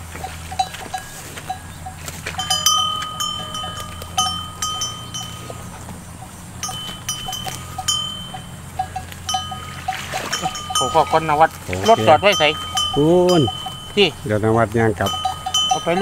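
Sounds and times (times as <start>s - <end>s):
metal animal bells clinking: 0.0s - 16.0s.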